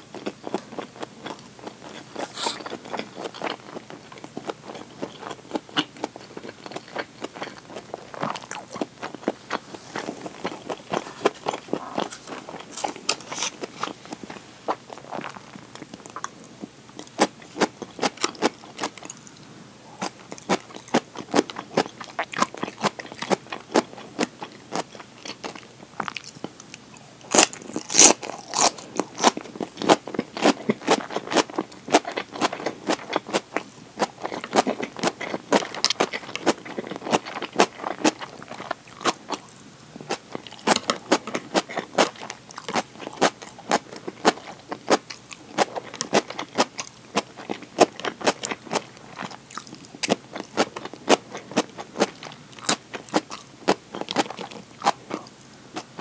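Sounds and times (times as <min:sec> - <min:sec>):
crunching and chewing salad: 0:00.0 - 0:56.0.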